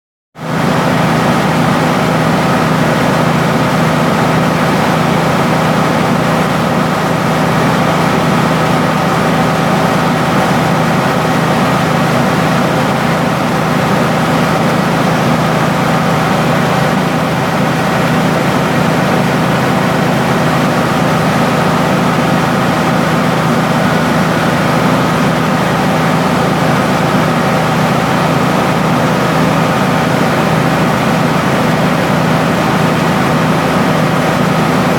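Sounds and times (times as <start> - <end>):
milling machine droning: 0.6 - 34.9.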